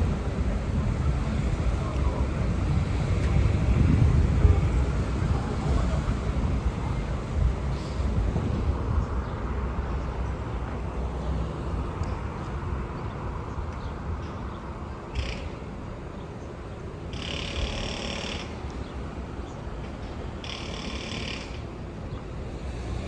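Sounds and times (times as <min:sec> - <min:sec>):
bus engines: 0:00.0 - 0:23.0
road traffic rumble: 0:00.0 - 0:23.0.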